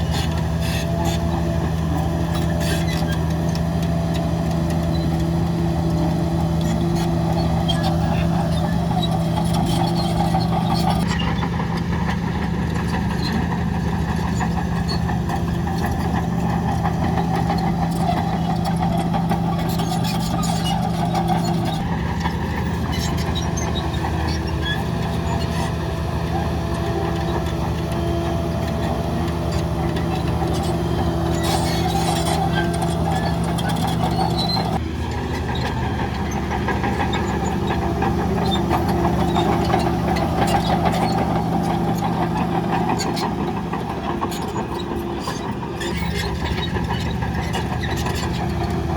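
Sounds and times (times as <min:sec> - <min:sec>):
heavy diesel machinery engines: 0:00.0 - 0:48.9.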